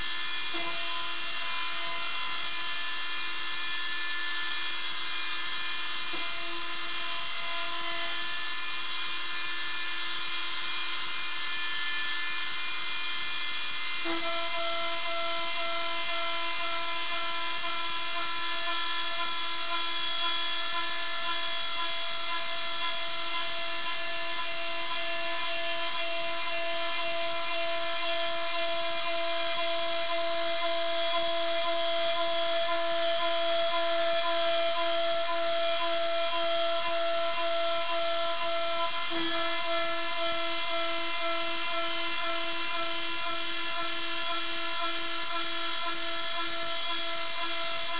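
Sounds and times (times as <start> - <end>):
router spindle whining: 0.0 - 47.9.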